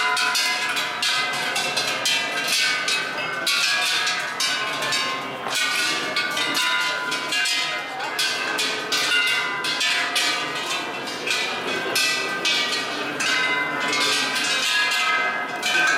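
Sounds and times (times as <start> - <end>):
crowd voices: 0.0 - 15.9
metal bells clanging: 0.0 - 15.9.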